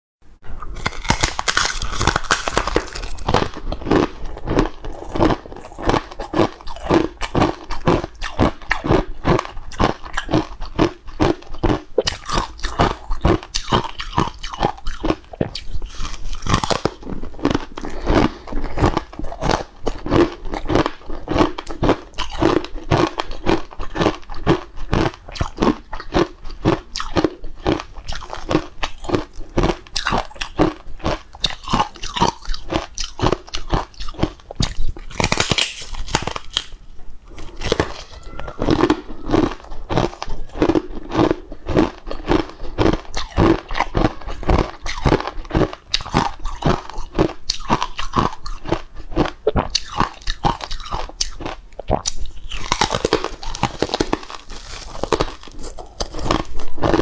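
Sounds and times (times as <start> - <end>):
crunchy chewing: 0.6 - 57.0.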